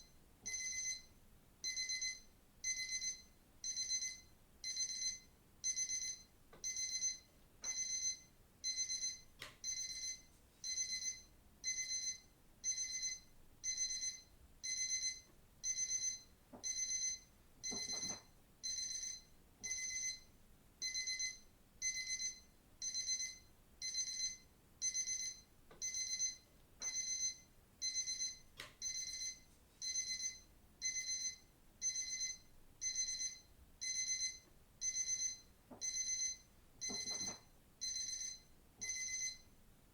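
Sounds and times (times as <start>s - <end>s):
digital watch alarm beeping: 0.5s - 20.2s, 20.8s - 39.5s.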